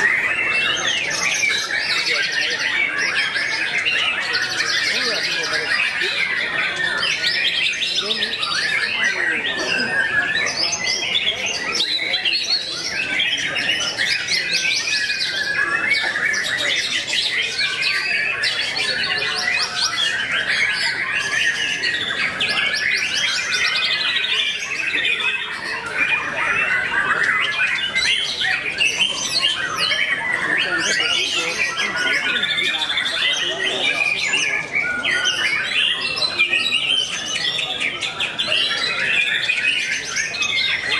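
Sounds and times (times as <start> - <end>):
birds singing: 0.0 - 40.9.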